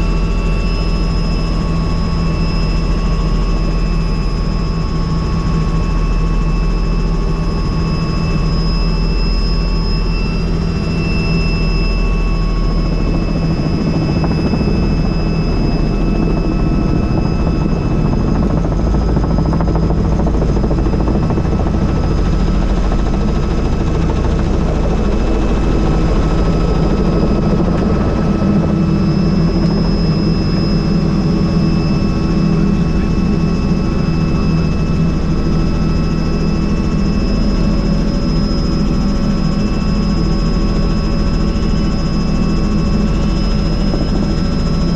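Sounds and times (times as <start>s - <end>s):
helicopter rotor and engine: 0.0s - 44.9s
high turbine whine: 0.0s - 44.9s.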